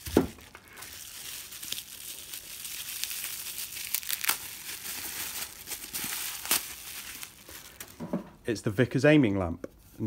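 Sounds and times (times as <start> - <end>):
bubble wrap crinkling: 0.0 - 8.1.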